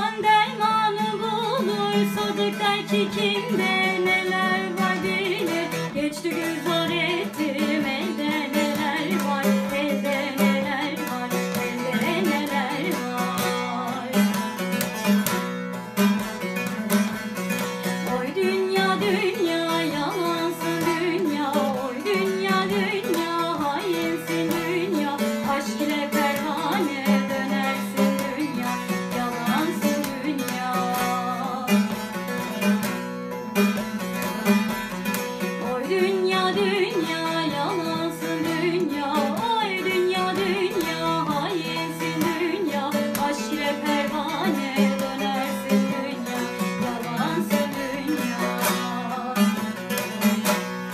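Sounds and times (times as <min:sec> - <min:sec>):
woman singing: 0:00.0 - 0:15.5, 0:16.2 - 0:33.0, 0:33.8 - 0:50.7
long-necked lute folk melody: 0:00.0 - 0:50.9.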